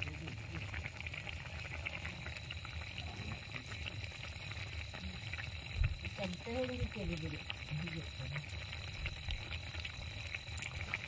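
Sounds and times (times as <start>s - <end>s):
curry bubbling and popping: 0.0s - 11.0s.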